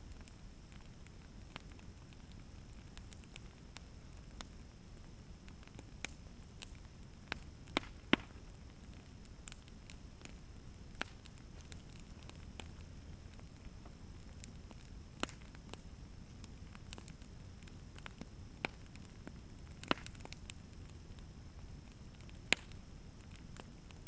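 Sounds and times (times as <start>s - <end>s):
low steady rumble: 0.0s - 24.0s
sharp pops of fire: 0.0s - 24.0s
wood fire crackling: 0.0s - 24.0s.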